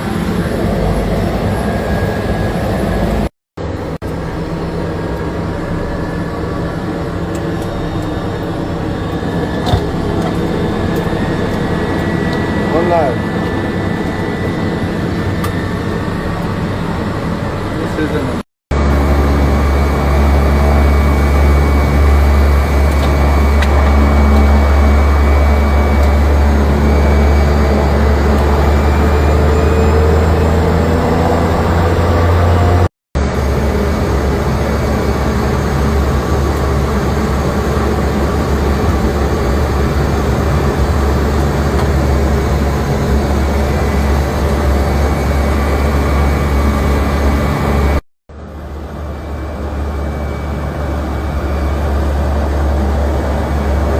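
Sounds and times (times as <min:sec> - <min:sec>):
plane engines droning in cabin: 0:00.0 - 0:53.9.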